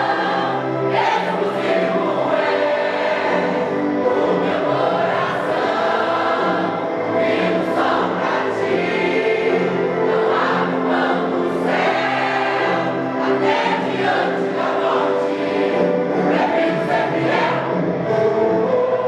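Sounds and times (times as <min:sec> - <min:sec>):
gospel vocal group singing: 0:00.0 - 0:19.0.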